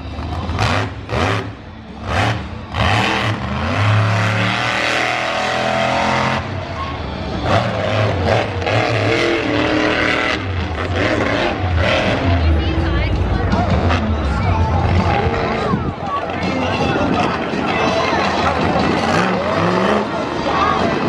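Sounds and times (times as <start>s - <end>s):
monster truck engine revving: 0.0s - 17.4s, 18.1s - 21.0s.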